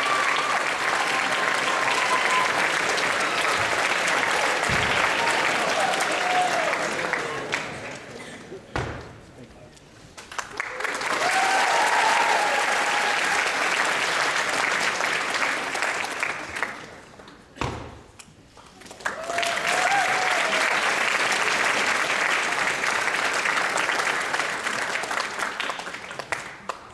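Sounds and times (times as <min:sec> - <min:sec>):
audience applauding: 0:00.0 - 0:08.6, 0:10.2 - 0:17.1, 0:18.9 - 0:26.9.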